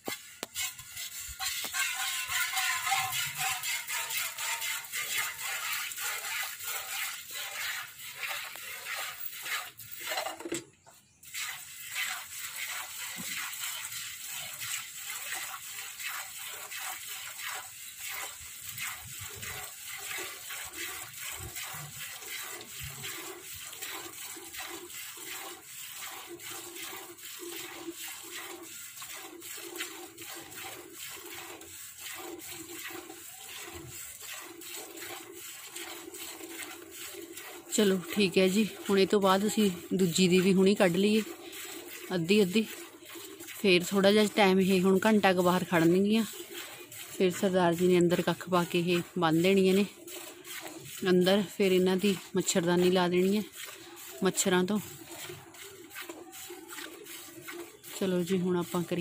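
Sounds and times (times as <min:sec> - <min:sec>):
milk squirting into bucket: 0:00.0 - 0:59.0.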